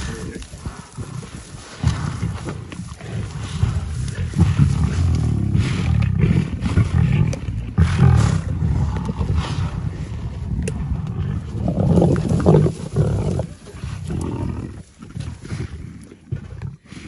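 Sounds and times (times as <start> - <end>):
lions growling: 0.0 - 17.0.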